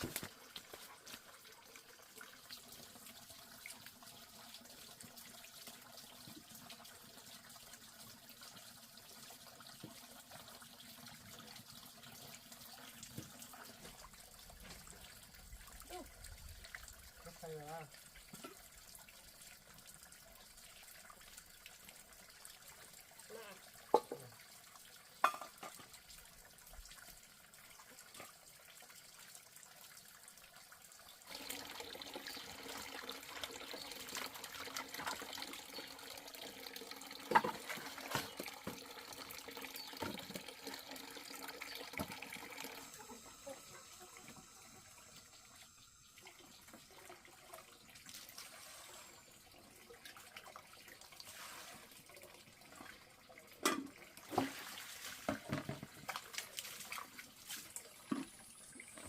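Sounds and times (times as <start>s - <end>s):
water running and splashing: 0.0s - 59.0s.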